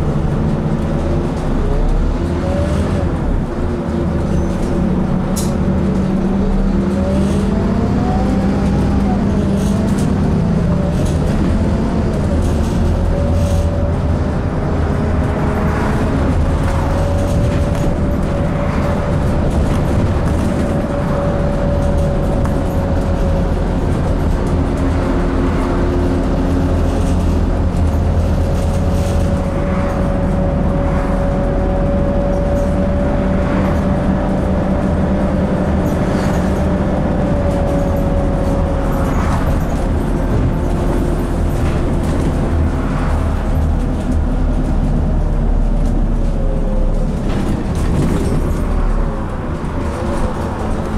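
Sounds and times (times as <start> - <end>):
bus diesel engine droning: 0.0 - 50.9.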